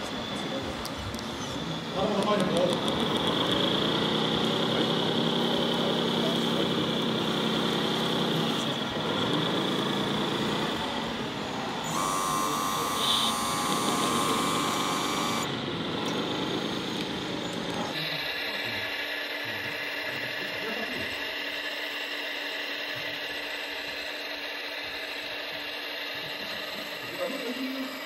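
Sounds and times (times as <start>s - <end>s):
electric hydraulic pump whining: 0.0s - 28.0s.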